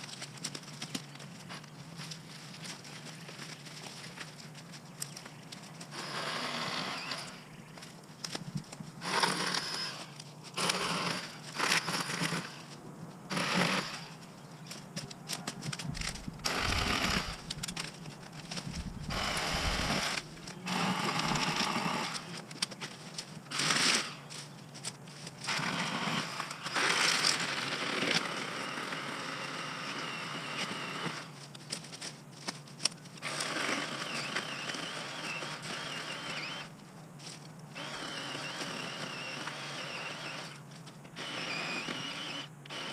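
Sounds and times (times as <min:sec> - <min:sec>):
chainsaw cutting brush: 0:00.0 - 0:42.9.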